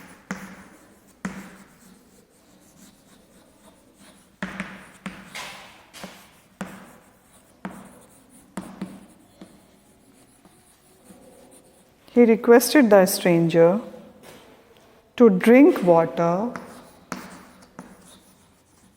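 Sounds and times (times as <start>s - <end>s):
scratchy writing on a board: 0.0s - 12.0s, 15.7s - 18.9s.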